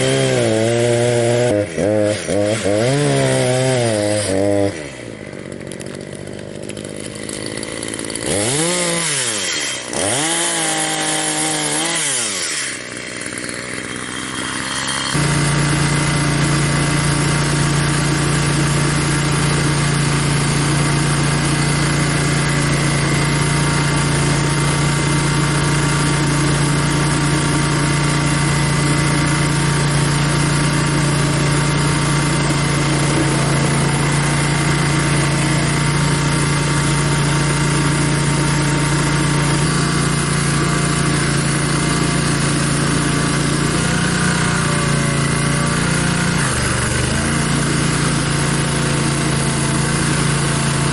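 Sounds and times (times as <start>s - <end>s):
stump grinder engine running: 0.0s - 50.9s.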